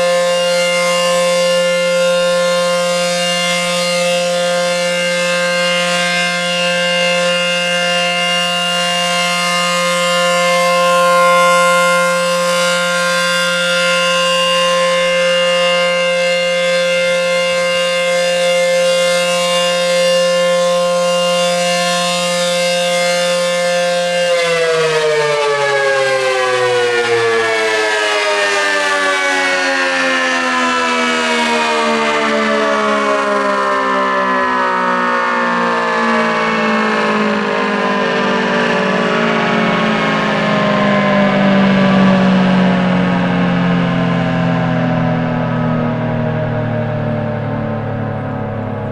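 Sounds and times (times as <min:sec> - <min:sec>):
two-tone warning siren: 0:00.0 - 0:48.9.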